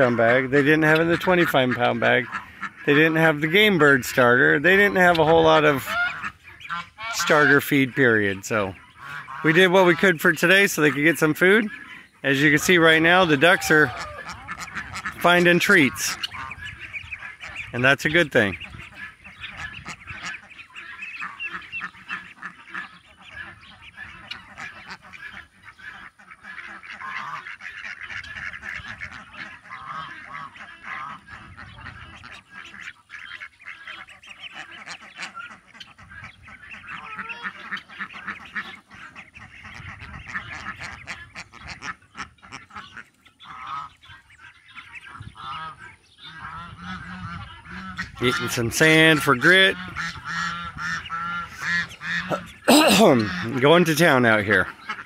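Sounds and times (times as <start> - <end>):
ducks quacking: 0.0 - 55.0
geese honking: 0.0 - 55.0.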